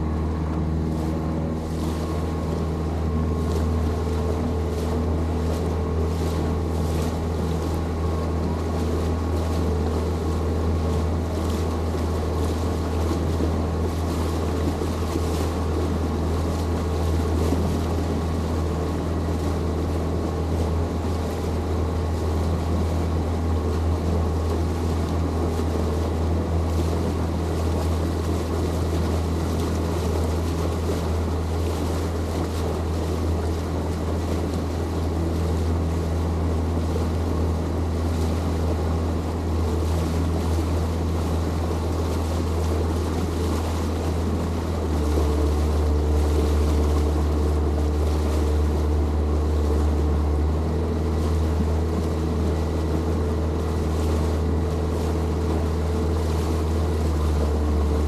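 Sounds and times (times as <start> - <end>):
motorboat engine running: 0.0 - 58.0
water noise: 0.0 - 58.0
wind: 0.0 - 58.0.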